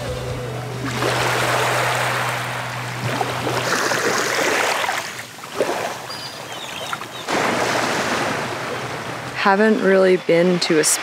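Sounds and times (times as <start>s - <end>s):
small waves washing onto beach: 0.8s - 11.0s.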